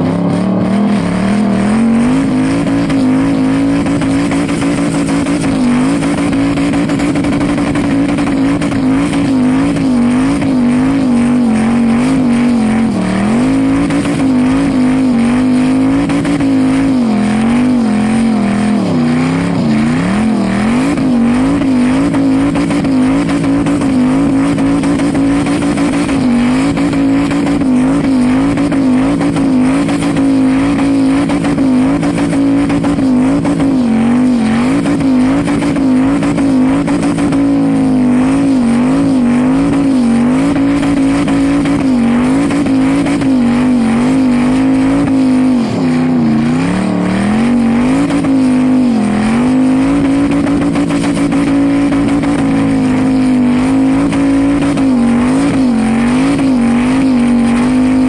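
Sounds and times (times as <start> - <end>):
car engine revving high: 0.0 - 58.0
tires spinning: 0.0 - 58.0.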